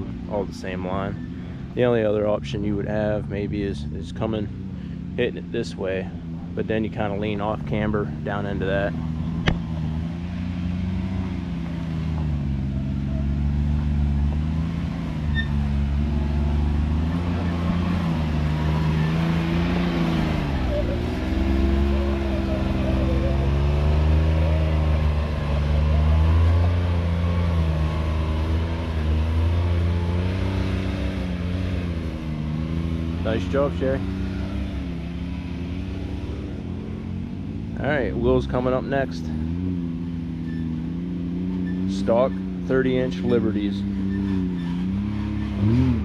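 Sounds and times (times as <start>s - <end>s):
utility vehicle engine revving: 0.0s - 46.0s.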